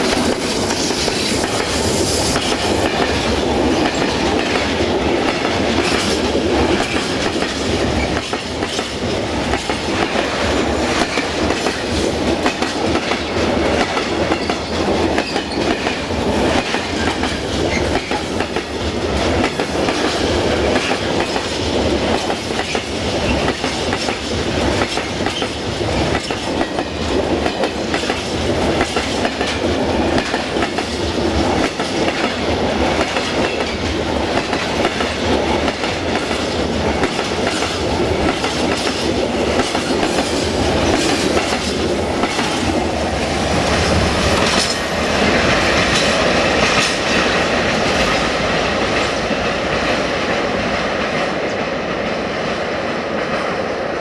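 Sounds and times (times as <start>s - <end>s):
wheels clacking over rail joints: 0.0s - 50.4s
steel wheels rumbling on rails: 0.0s - 54.0s.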